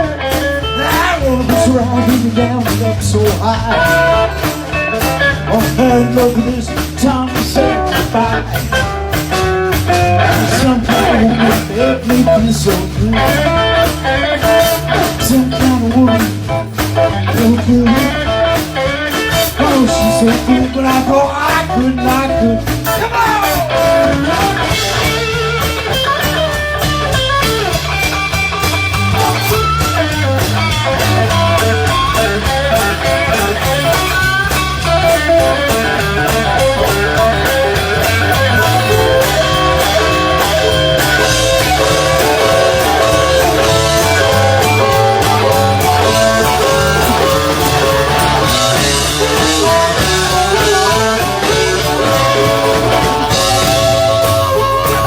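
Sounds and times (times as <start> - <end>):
bass guitar: 0.0 - 55.0
drum kit: 0.0 - 55.0
electric guitar solo: 0.0 - 55.0.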